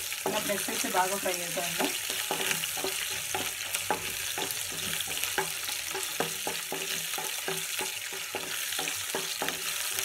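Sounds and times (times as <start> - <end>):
spices sizzling in hot oil: 0.0 - 10.0
wooden spatula knocking and scraping pan: 0.1 - 10.0.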